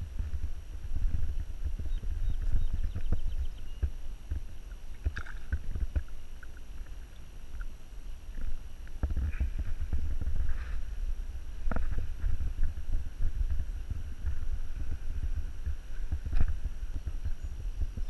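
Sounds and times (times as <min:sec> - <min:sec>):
wind and movement thumps on microphone: 0:00.0 - 0:18.0.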